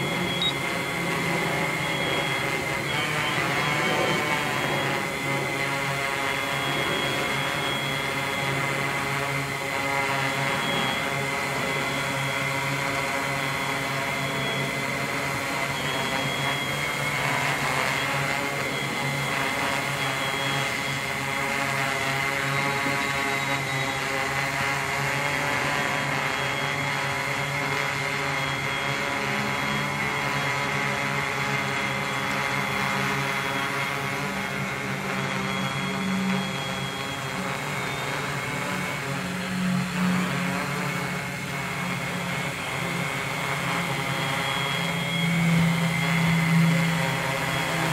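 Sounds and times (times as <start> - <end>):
drone motors buzzing: 0.0 - 47.9.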